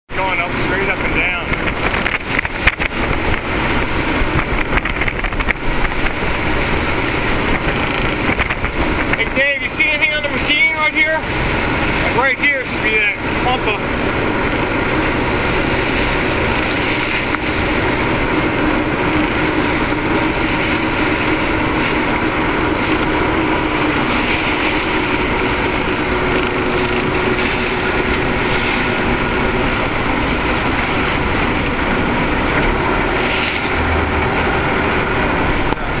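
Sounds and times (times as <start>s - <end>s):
boat engine running: 0.1s - 36.0s
water rushing: 0.1s - 36.0s.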